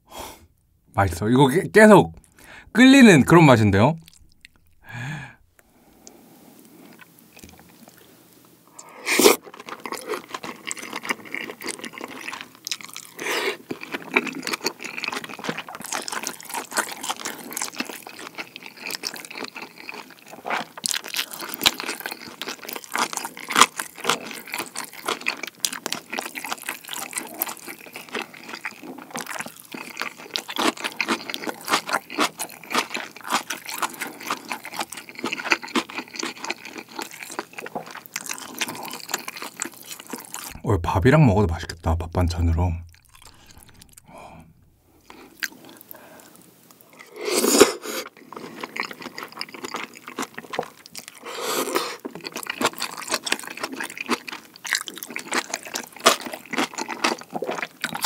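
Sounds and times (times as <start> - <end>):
crunchy wet chewing: 9.2 - 40.6, 42.9 - 58.0.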